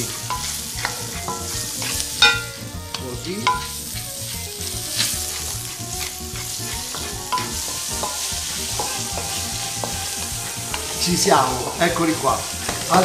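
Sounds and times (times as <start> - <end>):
meat sizzling in a pan: 0.0 - 13.0
pepper mill grinding: 0.0 - 13.0.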